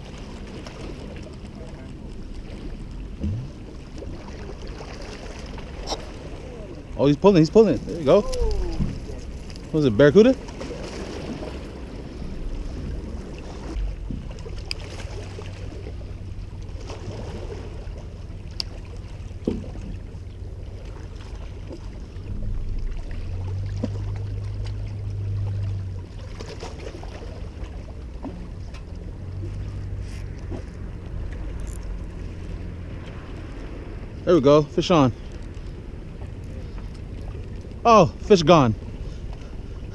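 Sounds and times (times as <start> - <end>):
motorboat engine drone: 0.0 - 39.9.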